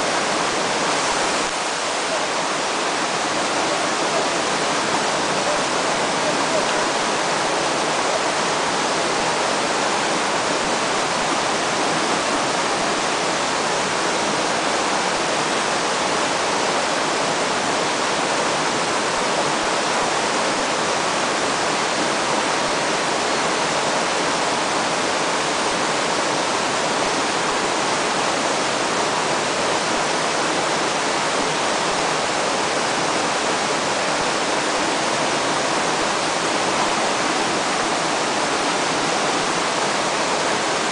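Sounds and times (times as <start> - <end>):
river current rushing: 0.0 - 40.9.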